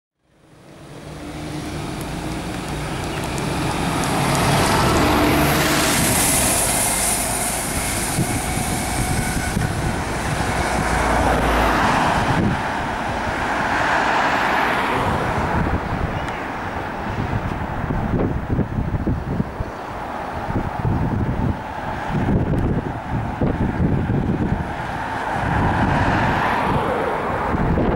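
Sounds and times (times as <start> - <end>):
bus diesel engine accelerating: 0.2 - 27.9
car passing close by: 0.6 - 18.3, 19.9 - 27.9.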